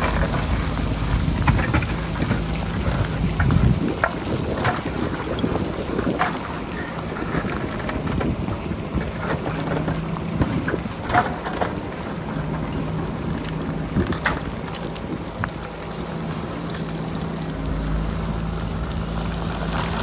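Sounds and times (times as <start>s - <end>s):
diesel engine running: 0.0s - 20.0s
wind rumbling on microphone: 0.0s - 20.0s.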